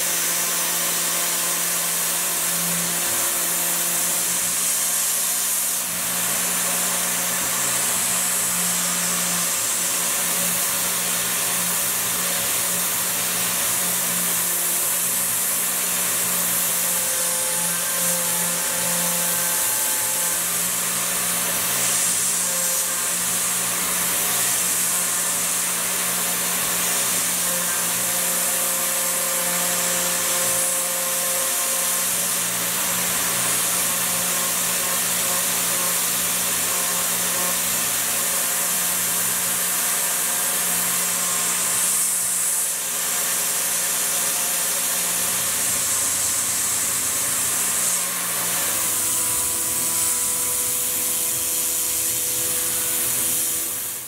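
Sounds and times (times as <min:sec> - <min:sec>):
hiss of metal cutting: 0:00.0 - 0:54.0.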